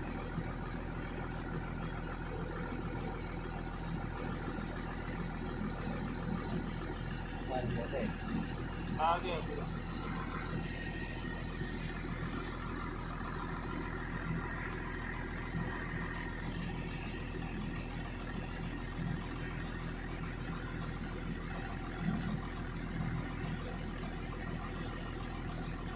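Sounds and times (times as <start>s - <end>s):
low engine hum: 0.0s - 25.9s.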